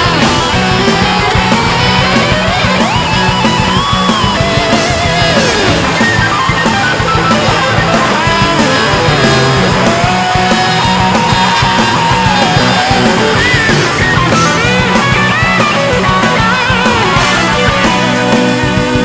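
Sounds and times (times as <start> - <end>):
lead electric guitar melody: 0.0 - 19.0
rock music: 0.0 - 19.0.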